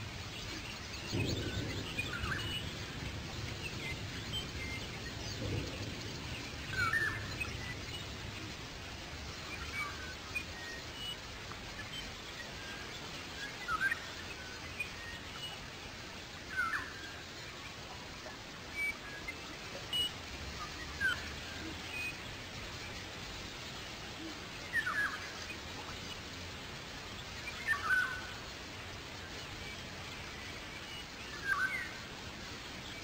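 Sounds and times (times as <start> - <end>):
background hiss: 0.0 - 33.0
small birds chirping: 0.0 - 33.0.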